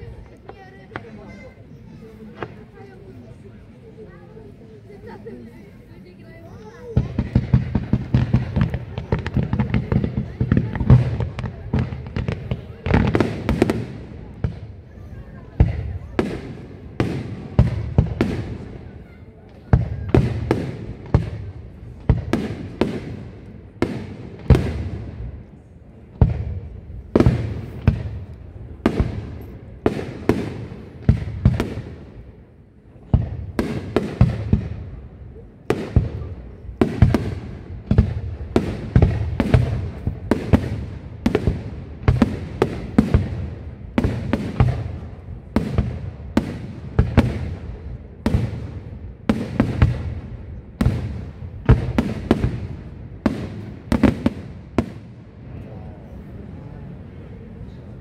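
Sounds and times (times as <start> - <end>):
fireworks bursting: 6.6 - 55.2.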